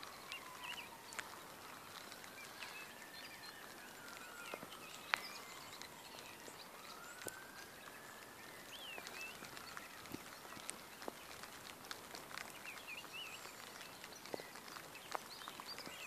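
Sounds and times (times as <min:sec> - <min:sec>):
raindrops dripping on metal: 0:00.0 - 0:16.0
small birds chirping: 0:00.0 - 0:16.0.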